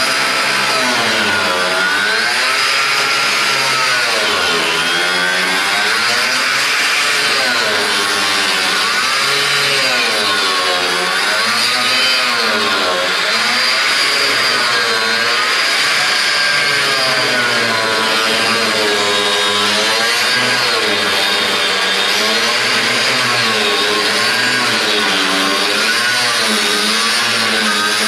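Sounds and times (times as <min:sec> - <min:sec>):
power tool cutting sheet metal: 0:00.0 - 0:28.0.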